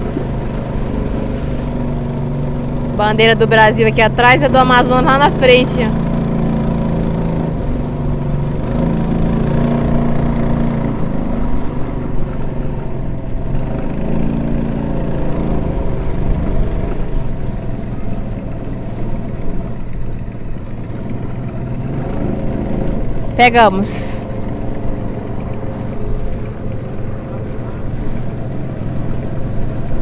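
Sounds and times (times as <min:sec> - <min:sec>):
boat engine running: 0:00.0 - 0:30.0
hull moving through water: 0:00.0 - 0:30.0.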